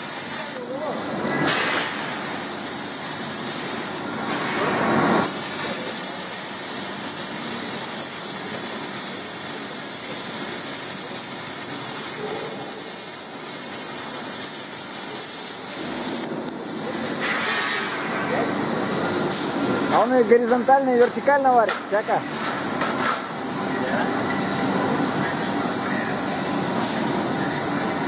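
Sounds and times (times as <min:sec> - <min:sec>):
plasma cutter hissing: 0:00.0 - 0:28.0.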